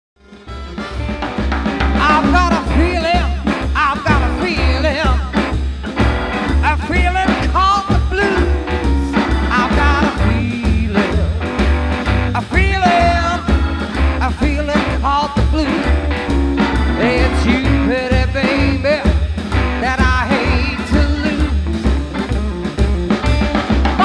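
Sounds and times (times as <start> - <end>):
drums: 0.2 - 24.0
lead melody with bending notes: 0.2 - 24.0
pulsing bass line: 0.5 - 24.0.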